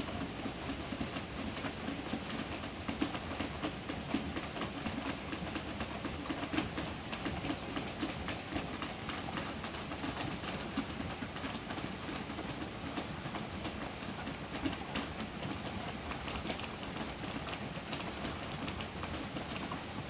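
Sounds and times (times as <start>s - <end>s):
heavy rain on roof: 0.0s - 20.0s.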